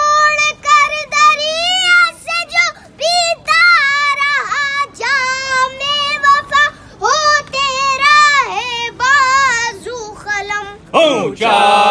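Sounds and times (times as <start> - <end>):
boy singing unaccompanied: 0.0 - 11.9.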